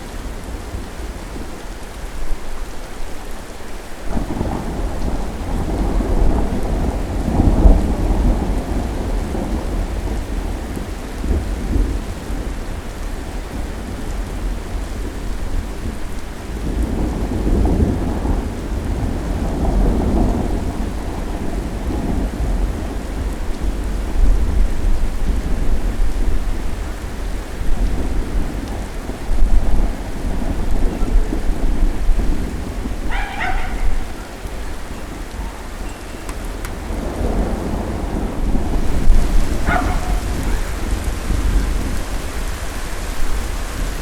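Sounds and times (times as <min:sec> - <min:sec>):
steady rain: 0:00.0 - 0:44.0
thunder rumbling: 0:04.1 - 0:44.0.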